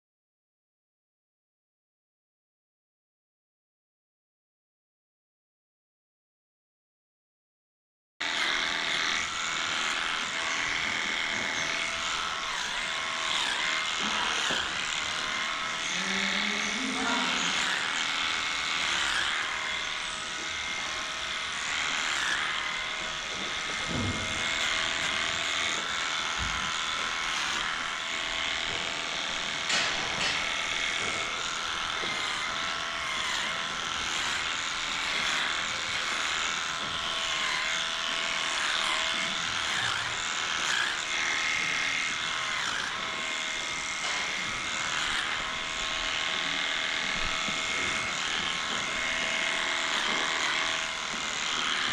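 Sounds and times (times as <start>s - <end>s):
electric clippers whining: 8.2s - 51.9s.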